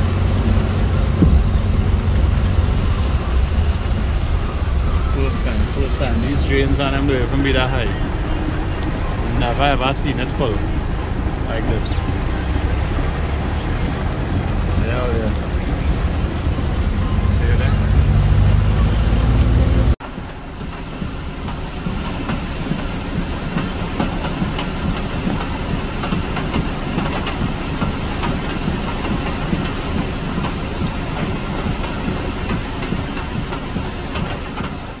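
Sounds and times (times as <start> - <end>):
floodwater rushing: 0.0 - 34.1
rain: 0.0 - 35.0
vehicle engine and road noise: 0.0 - 35.0.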